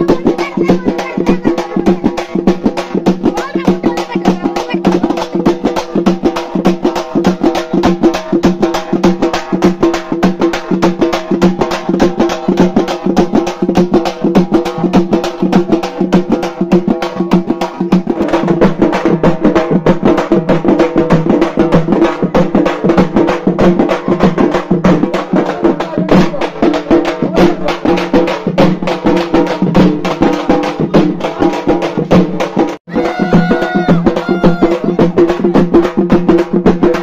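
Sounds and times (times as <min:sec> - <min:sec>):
large drums beaten rhythmically: 0:00.0 - 0:37.0.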